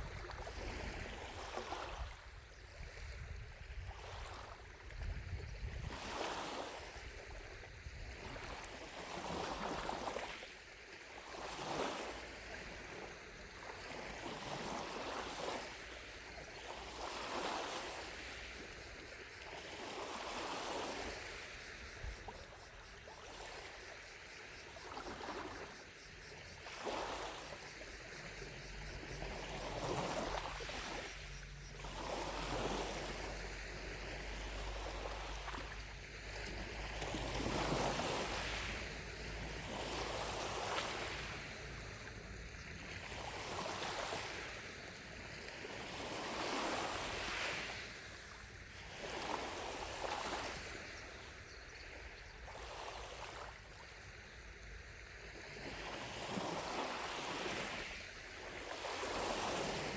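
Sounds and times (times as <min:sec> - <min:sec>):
distant cicadas droning: 0:00.0 - 0:59.9
lake waves lapping on shore: 0:00.0 - 0:59.9.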